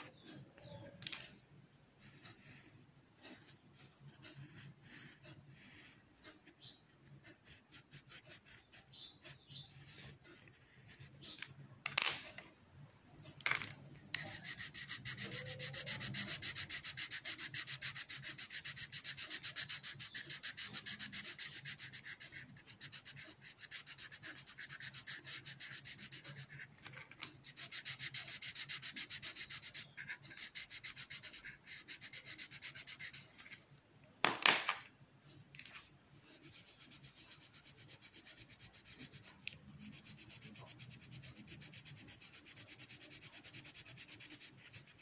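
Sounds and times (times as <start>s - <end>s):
pencil scratching on paper: 2.0s - 11.7s, 13.9s - 33.7s, 35.7s - 45.0s.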